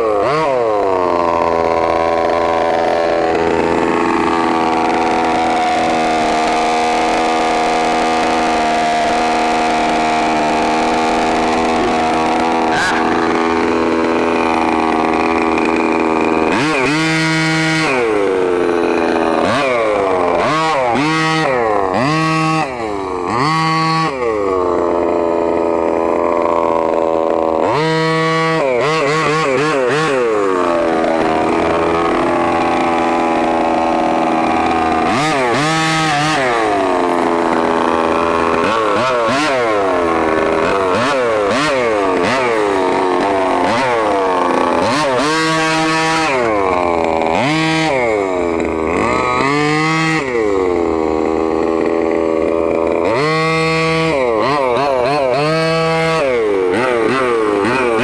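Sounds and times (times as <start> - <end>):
two-stroke engine revving: 0.0 - 58.0.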